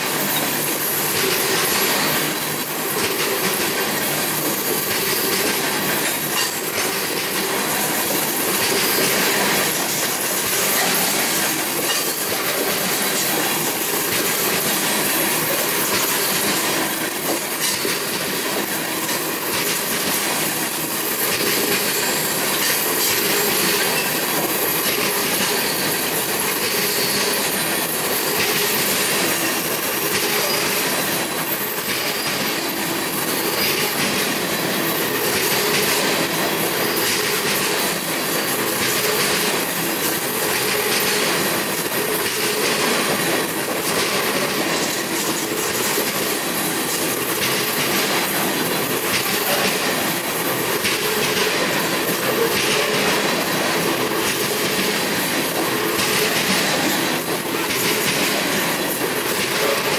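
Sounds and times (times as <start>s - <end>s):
freight train wheels rushing on rails: 0.0s - 59.9s
wheels clicking over rail joints: 0.0s - 59.9s.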